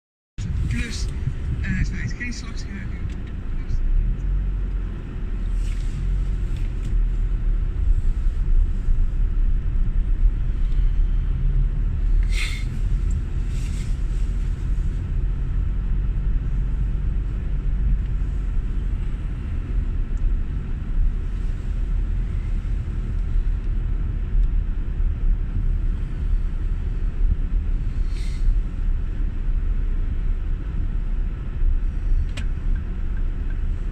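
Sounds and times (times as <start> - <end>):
car engine and road noise: 0.4 - 33.9.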